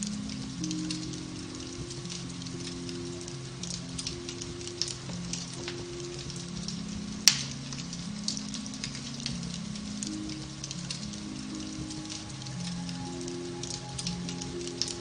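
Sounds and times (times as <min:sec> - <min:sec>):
fire crackling in fireplace: 0:00.0 - 0:15.0
soft piano music: 0:00.0 - 0:15.0.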